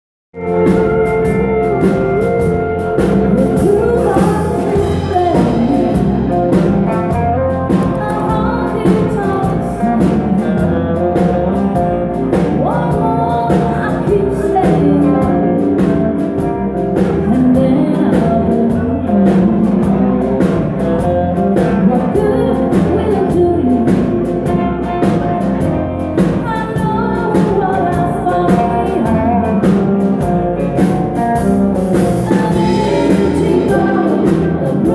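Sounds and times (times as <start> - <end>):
guitar: 0.3 - 34.9
person singing: 0.4 - 25.0, 26.2 - 34.9
drum kit beat: 0.4 - 34.9.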